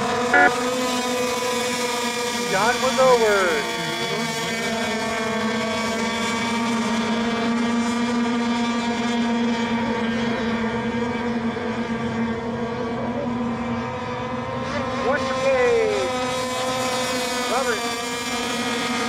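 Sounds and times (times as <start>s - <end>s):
racing boat engines high tone: 0.0s - 19.0s.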